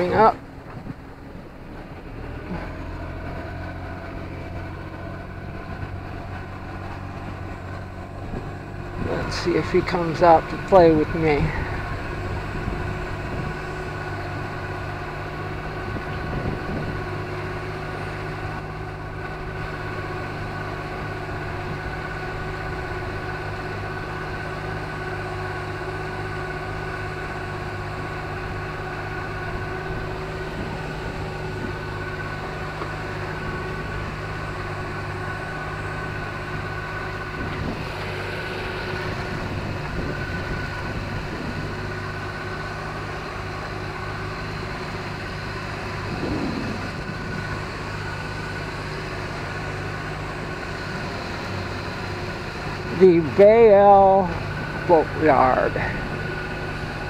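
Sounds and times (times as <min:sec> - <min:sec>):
outboard motor droning: 0:00.0 - 0:57.0
water rushing along hull: 0:00.0 - 0:57.0.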